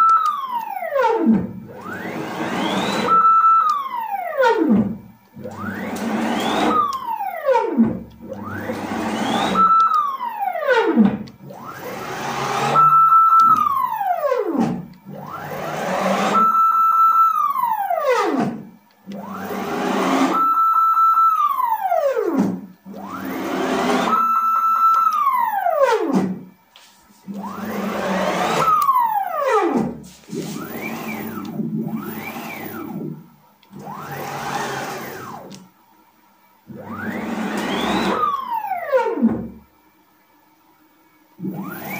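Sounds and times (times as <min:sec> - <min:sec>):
stepper motors whining: 0:00.0 - 0:26.4, 0:27.3 - 0:35.7, 0:36.7 - 0:39.6, 0:41.4 - 0:41.9.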